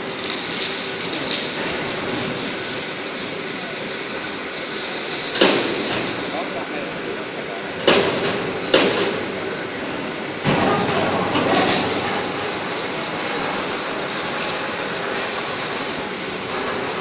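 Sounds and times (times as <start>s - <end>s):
workshop machinery rumble: 0.0s - 17.0s.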